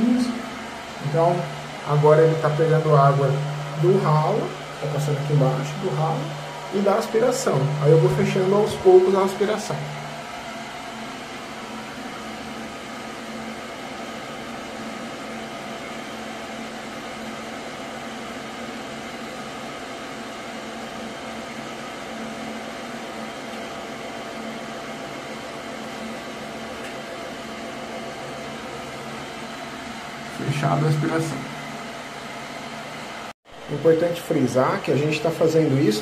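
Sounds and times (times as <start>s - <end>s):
pool pump motor hum: 0.0s - 36.0s.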